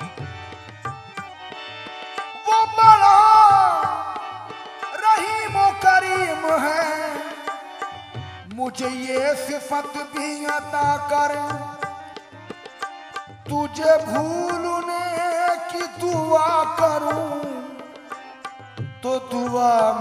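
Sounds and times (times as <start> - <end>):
harmonium chords: 0.0 - 20.0
tabla beat: 0.0 - 20.0.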